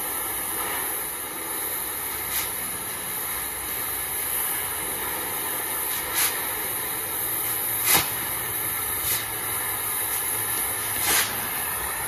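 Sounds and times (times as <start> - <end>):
propane torch hissing: 0.0 - 12.0.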